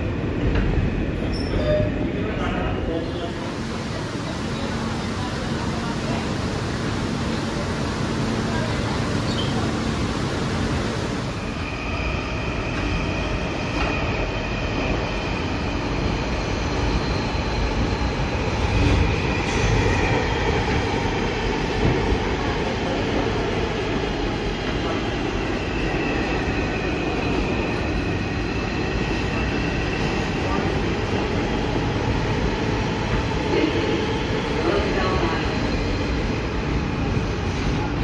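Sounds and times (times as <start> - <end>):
subway wheels rumbling on rail: 0.0 - 38.0.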